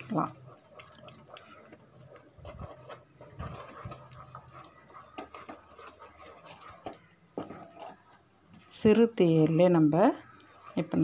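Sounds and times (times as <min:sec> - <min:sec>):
utensil scraping a pan: 0:00.0 - 0:09.1, 0:09.8 - 0:11.0.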